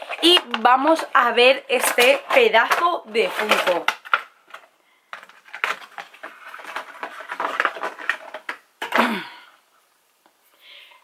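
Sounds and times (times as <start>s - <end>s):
packaging rustling and clicking: 0.0s - 9.0s.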